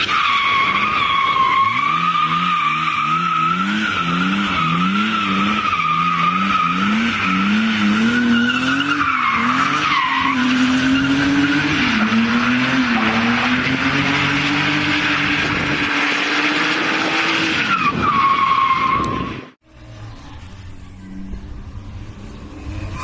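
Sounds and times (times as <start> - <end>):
car engine revving high: 0.6 - 19.5.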